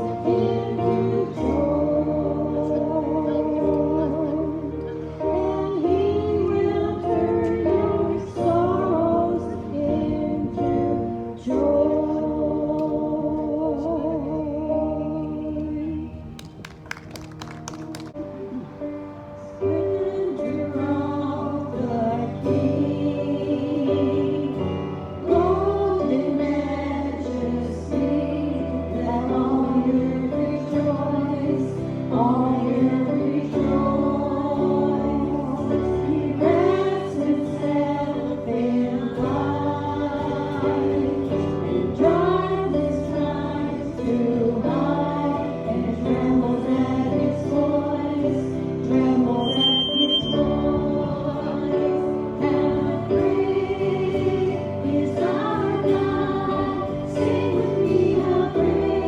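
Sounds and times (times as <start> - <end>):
group singing a gospel hymn: 0.0 - 16.1, 19.7 - 59.0.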